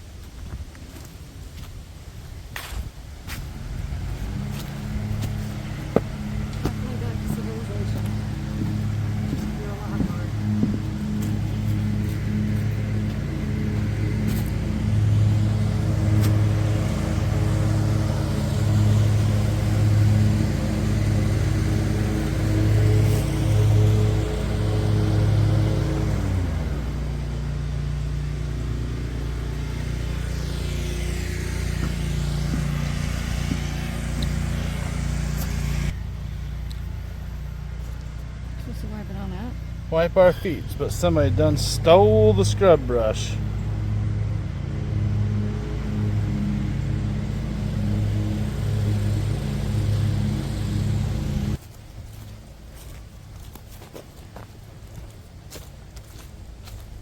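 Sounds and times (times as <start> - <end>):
vehicle engine drone: 0.0 - 57.0.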